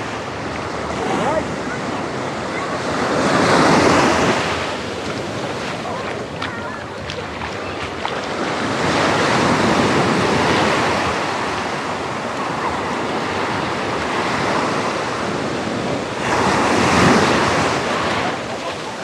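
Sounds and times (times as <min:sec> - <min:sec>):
small waves breaking on sand: 0:00.0 - 0:19.0.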